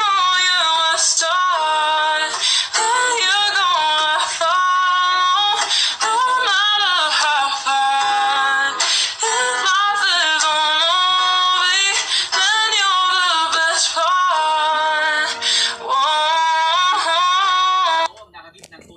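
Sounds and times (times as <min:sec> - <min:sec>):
woman singing: 0:00.0 - 0:18.1.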